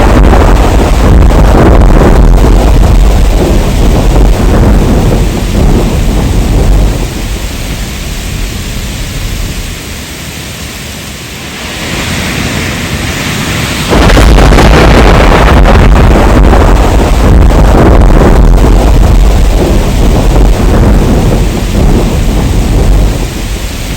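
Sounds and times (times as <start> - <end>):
heavy rain: 0.0 - 23.9
thunder rumbling: 0.0 - 23.9.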